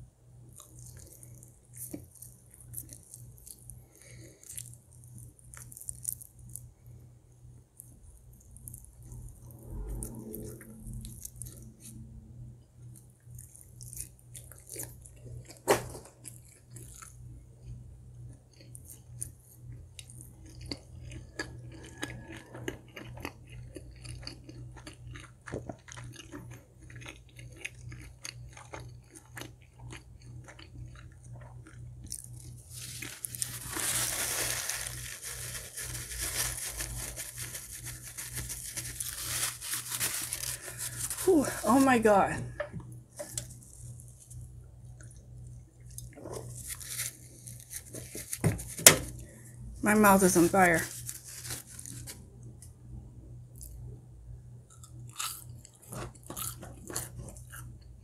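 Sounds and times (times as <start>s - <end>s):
crunching fried food: 0.4s - 12.1s, 12.7s - 42.3s, 43.1s - 52.7s, 54.6s - 58.0s.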